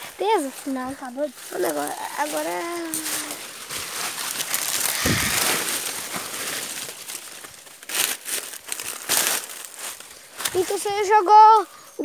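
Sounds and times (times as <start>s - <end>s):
leaves and twigs crunching: 0.0s - 12.0s.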